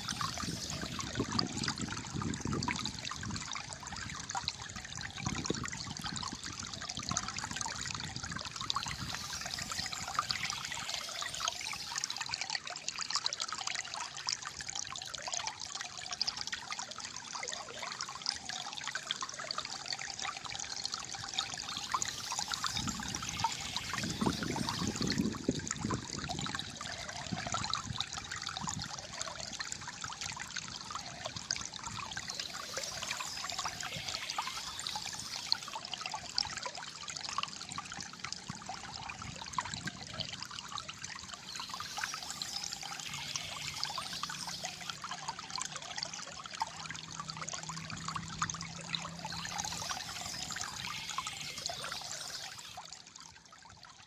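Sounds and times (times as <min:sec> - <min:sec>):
stream gurgling: 0:00.0 - 0:54.0.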